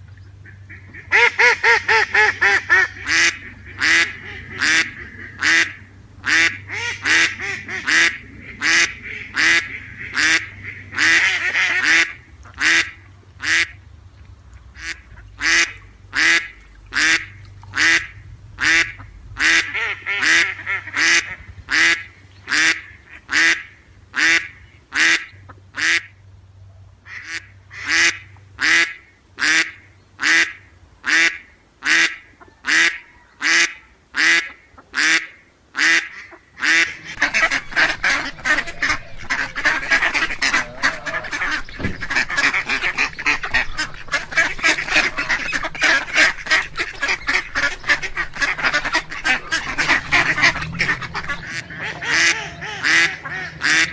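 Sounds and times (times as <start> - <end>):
duck quacking: 0.4 - 13.8, 14.8 - 26.2, 27.0 - 53.9.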